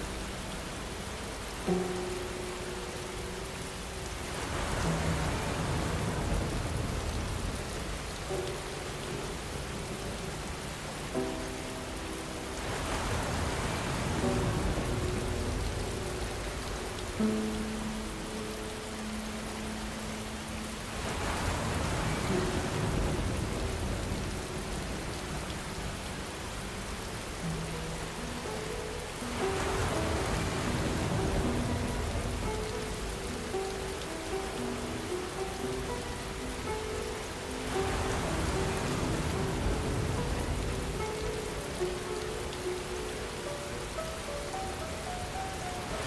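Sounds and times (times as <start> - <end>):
soft piano notes: 0.0 - 46.0
steady rain falling: 0.0 - 46.0.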